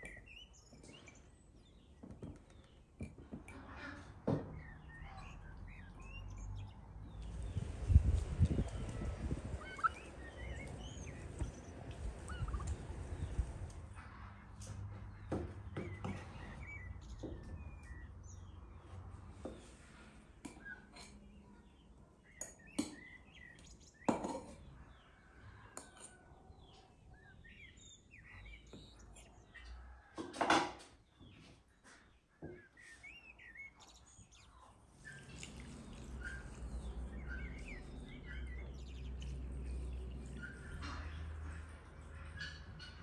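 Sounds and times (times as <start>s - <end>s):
small birds chirping: 0.0s - 3.3s, 4.4s - 14.0s, 14.9s - 30.1s, 31.0s - 43.0s.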